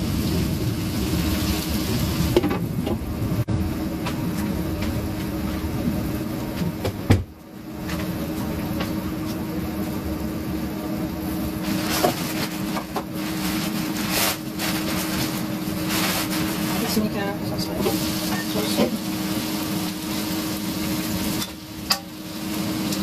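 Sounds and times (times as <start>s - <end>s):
food frying: 0.0s - 23.0s
steady mechanical hum: 0.0s - 23.0s.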